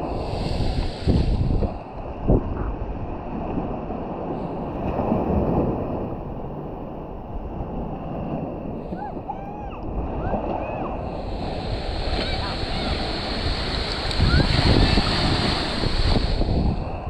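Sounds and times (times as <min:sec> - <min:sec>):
small waves washing on beach: 0:00.0 - 0:17.0
wind buffeting microphone: 0:00.0 - 0:17.0.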